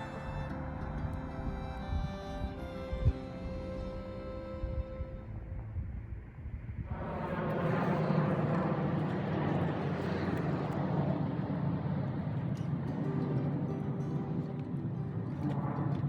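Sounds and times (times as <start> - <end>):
vehicle rumble and low hum: 0.0 - 16.0.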